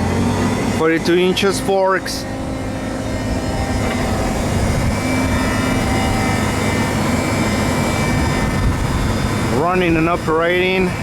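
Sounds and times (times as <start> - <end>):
forklift engine humming: 0.0 - 11.0
steady engine whine: 0.0 - 11.0.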